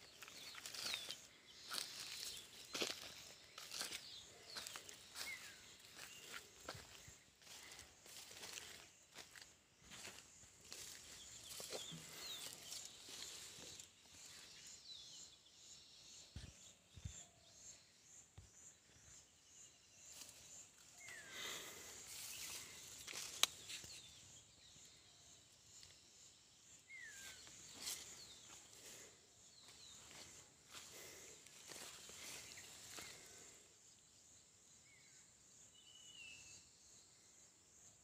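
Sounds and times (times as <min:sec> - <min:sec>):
faint bird chirps: 0:00.0 - 0:38.0
insect hiss: 0:00.0 - 0:38.0.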